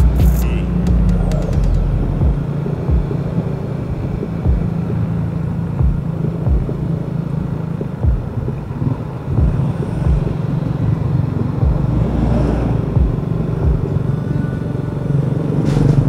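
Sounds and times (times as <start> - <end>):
low thumps: 0.0 - 14.2
vehicle engine and road hum: 0.0 - 16.0.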